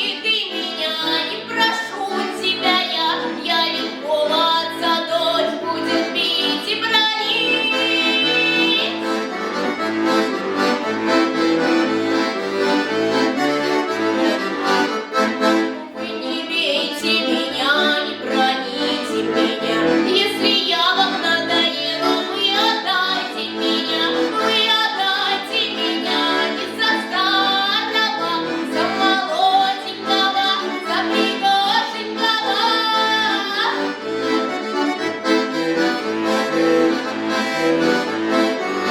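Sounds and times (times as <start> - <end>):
accordion playing a tune: 0.0 - 38.9.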